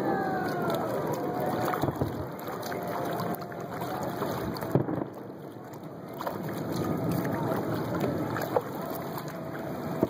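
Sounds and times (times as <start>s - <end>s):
water washing: 0.0s - 10.0s.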